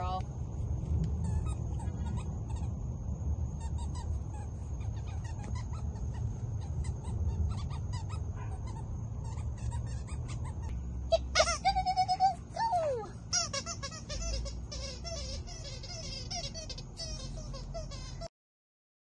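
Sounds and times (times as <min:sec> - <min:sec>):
squeaky toy squeaks: 0:01.2 - 0:02.9, 0:03.5 - 0:18.3.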